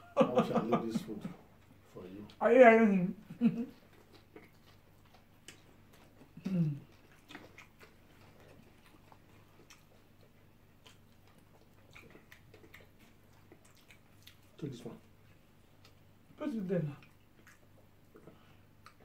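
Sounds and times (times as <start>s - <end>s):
chewing: 3.6s - 19.0s.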